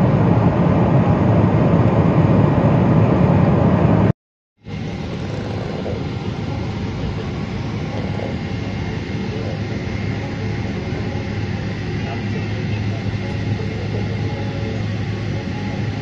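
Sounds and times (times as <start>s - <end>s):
jet engines idling in cabin: 0.0s - 16.0s.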